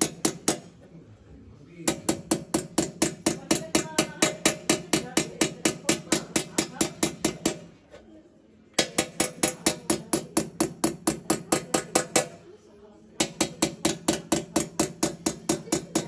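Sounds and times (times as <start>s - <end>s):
hammer tapping metal punch: 0.0s - 0.7s, 1.8s - 7.7s, 8.8s - 12.4s, 13.2s - 16.0s.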